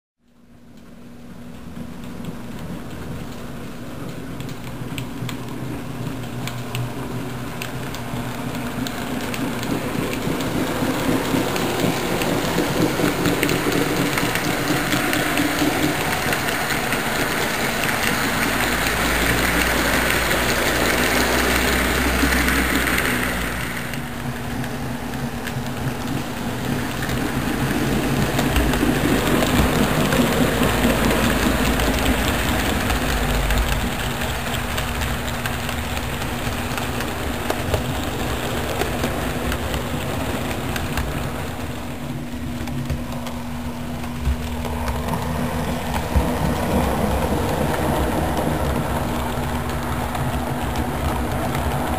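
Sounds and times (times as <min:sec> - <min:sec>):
model train rumbling: 0:00.5 - 0:51.9.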